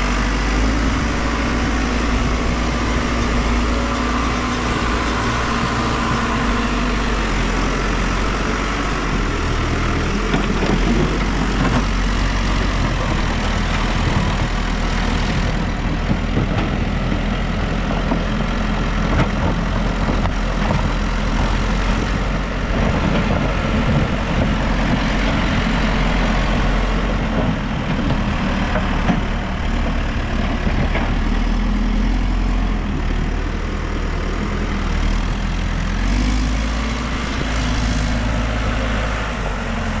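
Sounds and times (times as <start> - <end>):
backhoe diesel engine running: 0.0 - 40.0.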